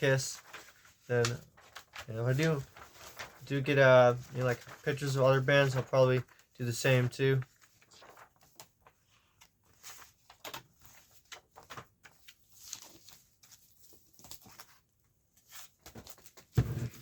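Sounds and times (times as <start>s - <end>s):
paper rustling: 0.0s - 17.0s.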